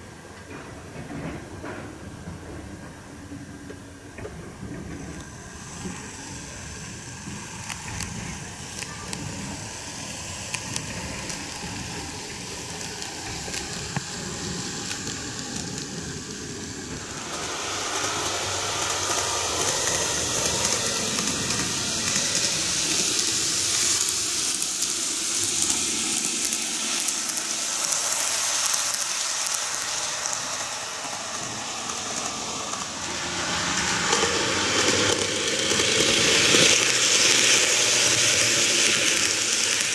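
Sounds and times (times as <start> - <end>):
model train rolling hiss: 0.0 - 39.9.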